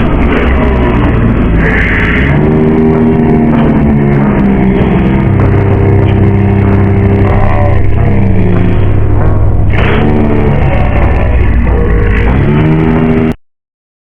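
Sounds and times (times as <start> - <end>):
loud distorted droning tones: 0.0 - 13.4.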